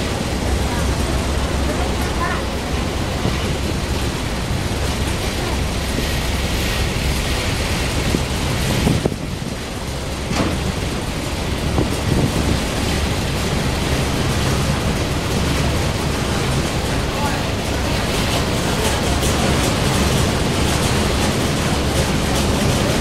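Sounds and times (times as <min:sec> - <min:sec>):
boat engine running: 0:00.0 - 0:23.0
water: 0:00.0 - 0:23.0
wind rushing on microphone: 0:00.0 - 0:23.0.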